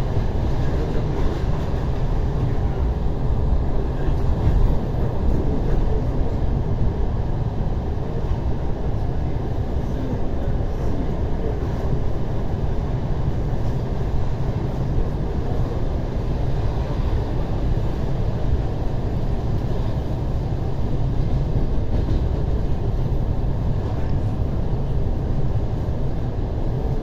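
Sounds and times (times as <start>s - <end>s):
electric train rumble from inside: 0.0s - 27.0s.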